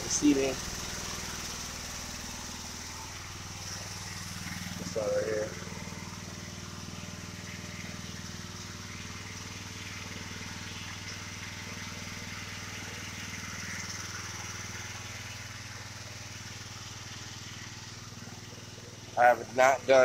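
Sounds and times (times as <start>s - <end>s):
pressure washer engine running: 0.0s - 20.0s.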